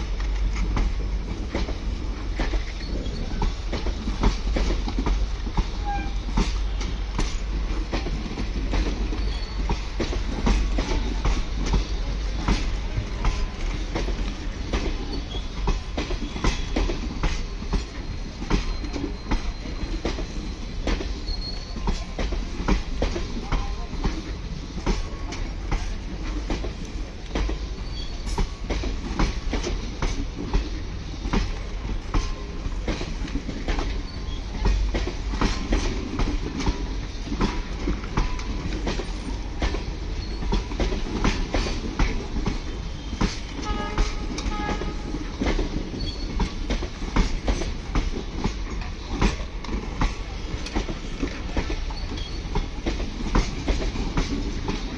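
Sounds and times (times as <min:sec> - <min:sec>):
train rumbling on rails: 0:00.0 - 0:54.9.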